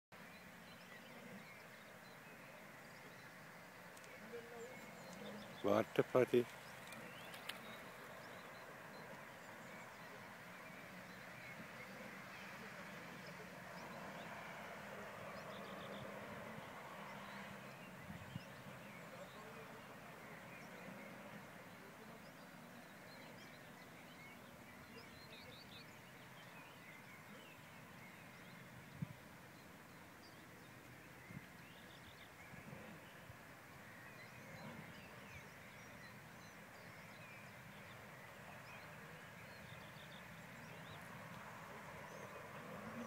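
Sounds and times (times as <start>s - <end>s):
birds chirping: 0.2s - 43.0s.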